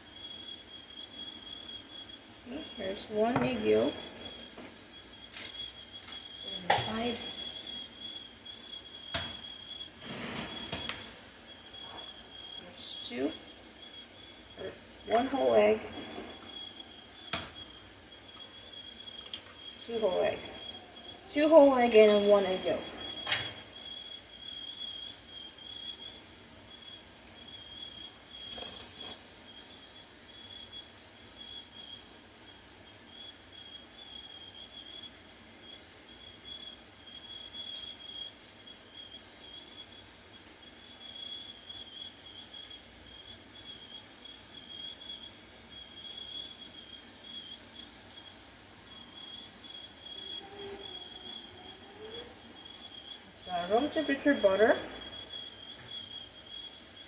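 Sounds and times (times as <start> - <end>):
cricket trilling: 0.0 - 57.0.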